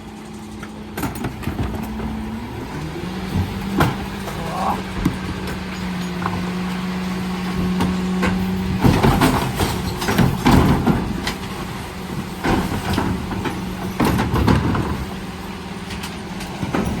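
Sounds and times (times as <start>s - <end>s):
refuse truck hum: 0.0s - 17.0s
clattering and banging: 0.2s - 17.0s.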